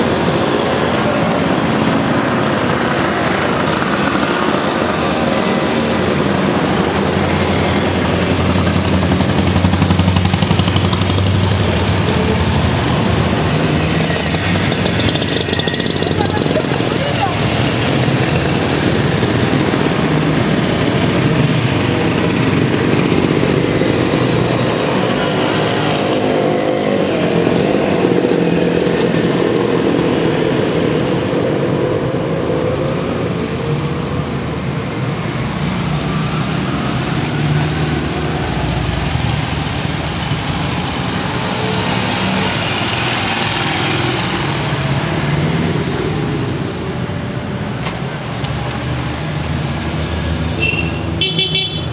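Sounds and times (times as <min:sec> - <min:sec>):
motorcycles passing by: 0:00.0 - 0:51.9.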